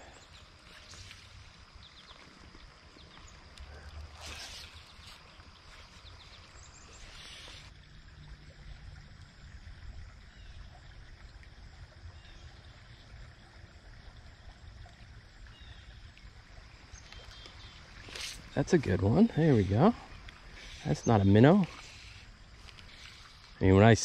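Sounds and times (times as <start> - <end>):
water running in stream: 0.0 - 24.0.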